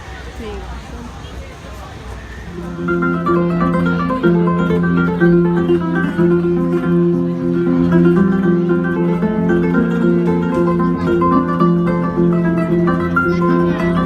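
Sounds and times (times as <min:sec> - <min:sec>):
plucked acoustic guitar music: 0:02.6 - 0:14.0.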